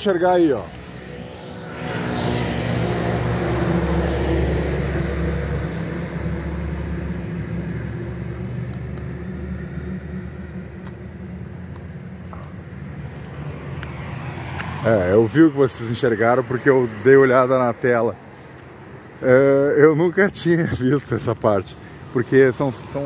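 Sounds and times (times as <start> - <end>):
vehicle engine rumble passing: 0.0 - 23.0.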